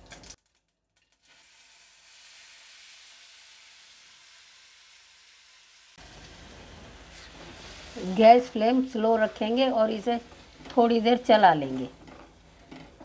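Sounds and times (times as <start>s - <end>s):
food sizzling in hot oil: 1.0s - 13.0s.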